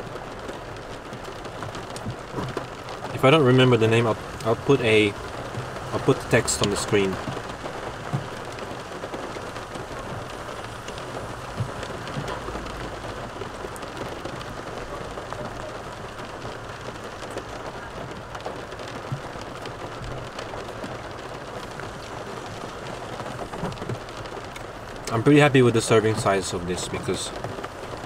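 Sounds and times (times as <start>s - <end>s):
rain on car roof: 0.0s - 28.0s.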